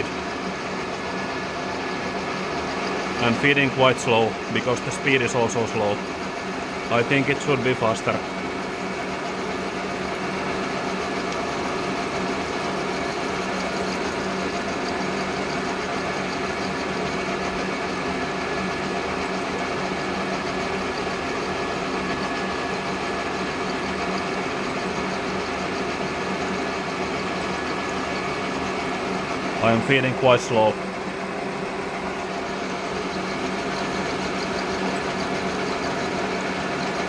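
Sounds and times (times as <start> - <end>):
milling machine drone: 0.0 - 37.0.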